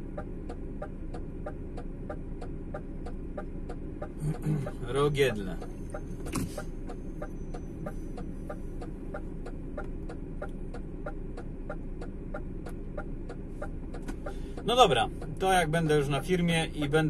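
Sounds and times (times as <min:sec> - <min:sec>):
regular ticking: 0:00.0 - 0:17.0
truck engine rumble: 0:00.0 - 0:17.0.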